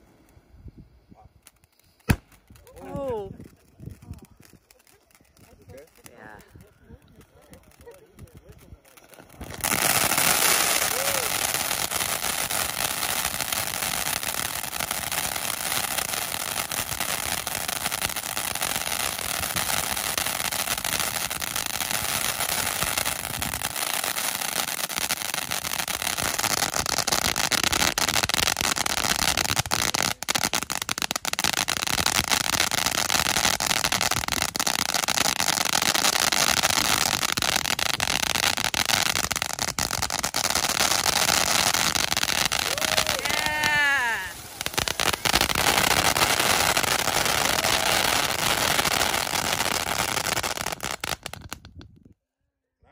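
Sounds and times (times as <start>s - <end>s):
firework fountain hissing crackle: 0.0s - 52.0s.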